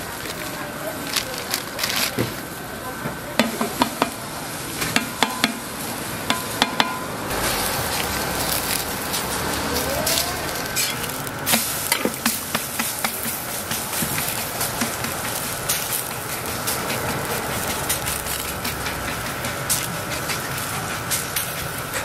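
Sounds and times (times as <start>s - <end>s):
batter sizzling in oil: 0.0s - 22.0s.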